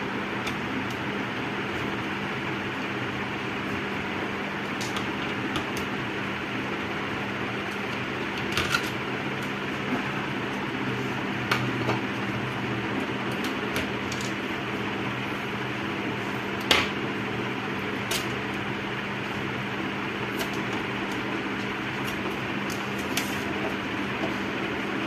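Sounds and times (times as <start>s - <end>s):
fan-like hum: 0.0s - 25.0s.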